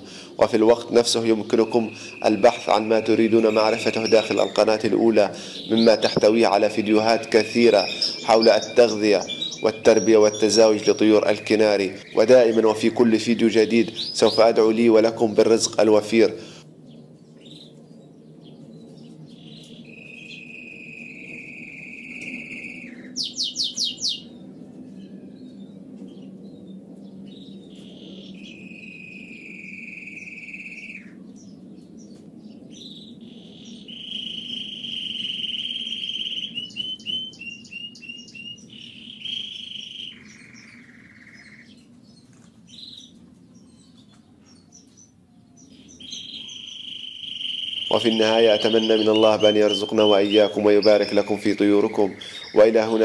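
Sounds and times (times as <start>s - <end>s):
canaries singing trills: 0.0s - 53.0s
steady low hum: 0.0s - 53.0s.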